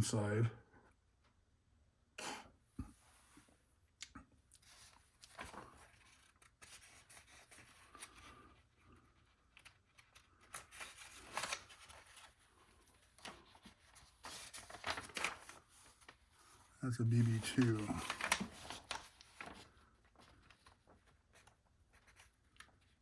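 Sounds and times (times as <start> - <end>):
rustling of paper and parts: 4.5 - 23.0.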